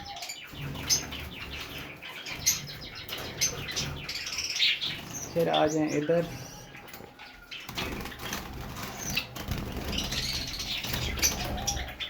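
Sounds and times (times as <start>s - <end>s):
birds rustling in cage: 0.0s - 12.0s.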